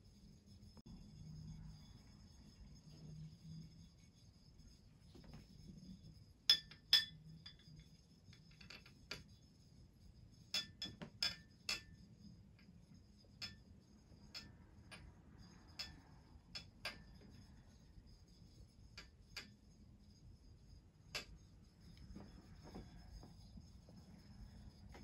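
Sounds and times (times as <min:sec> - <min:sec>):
faint high-pitched whine: 0:00.0 - 0:25.0.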